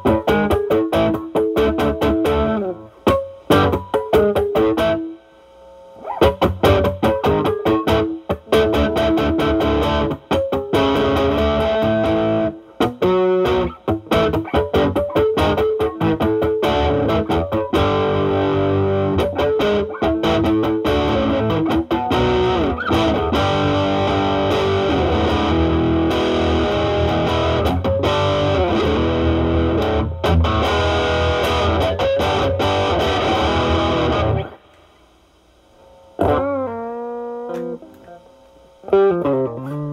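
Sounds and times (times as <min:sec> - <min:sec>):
overdriven electric guitar blues lead: 0:00.0 - 0:05.2, 0:06.0 - 0:34.7, 0:36.2 - 0:39.9.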